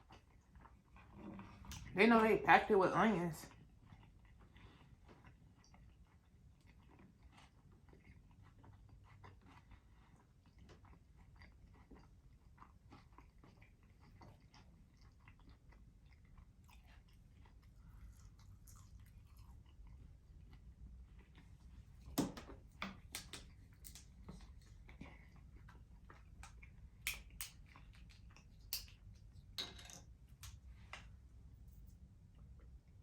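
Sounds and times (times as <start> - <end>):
chewing food: 0.0 - 1.9, 3.5 - 29.6.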